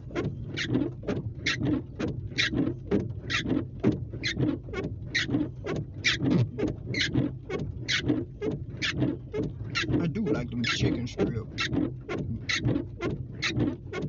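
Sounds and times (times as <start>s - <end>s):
low steady hum: 0.0s - 14.0s
regular ticking inside a car: 0.0s - 14.0s.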